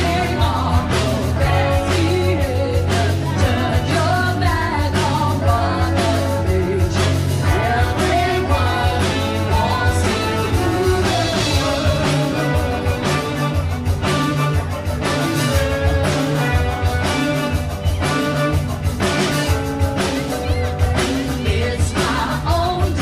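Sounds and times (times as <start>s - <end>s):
person singing: 0.0s - 14.6s, 15.7s - 23.0s
live band music: 0.0s - 23.0s.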